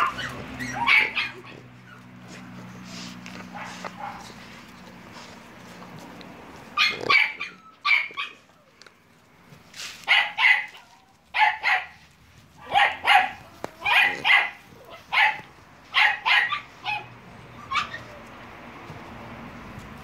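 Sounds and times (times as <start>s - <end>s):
puppies yapping: 0.0s - 8.8s, 10.0s - 18.4s.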